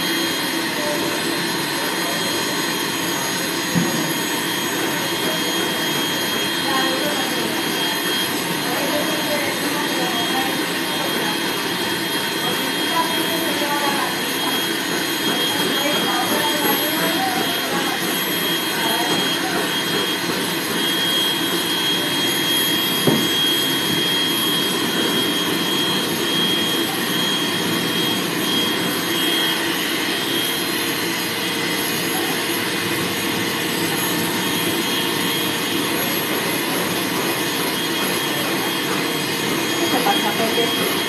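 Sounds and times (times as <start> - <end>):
dryer blowing air with whine: 0.0 - 41.0.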